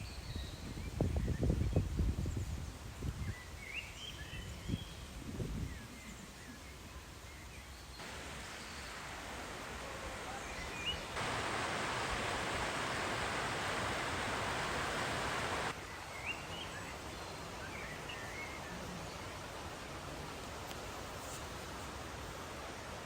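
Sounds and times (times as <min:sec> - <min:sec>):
outdoor nature ambience: 0:00.0 - 0:23.0.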